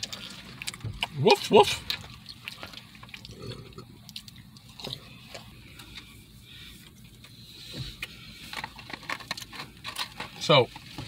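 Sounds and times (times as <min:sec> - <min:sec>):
quiet chewing: 0:00.0 - 0:09.8.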